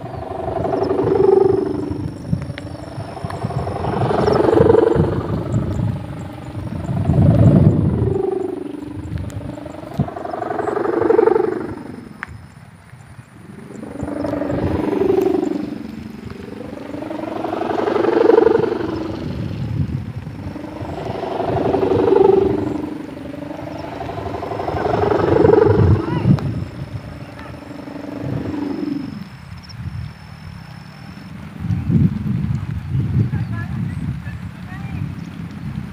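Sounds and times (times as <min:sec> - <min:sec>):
kite hummer humming: 0:00.0 - 0:35.9.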